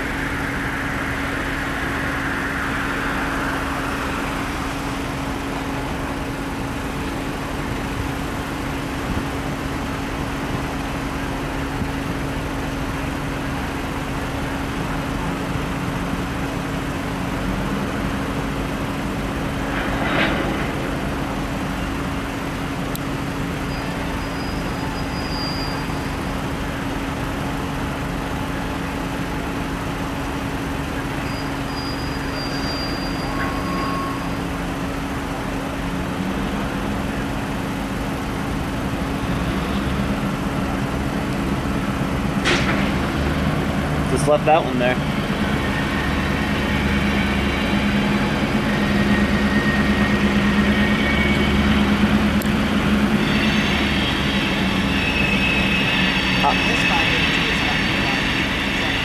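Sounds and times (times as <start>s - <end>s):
diesel locomotive idling: 0.0s - 59.0s.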